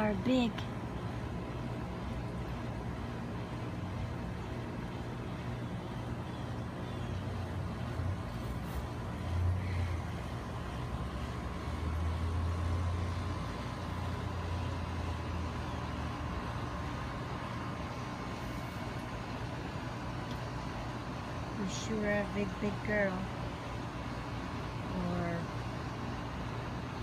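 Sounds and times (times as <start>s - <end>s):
distant traffic rumble: 0.0s - 27.0s.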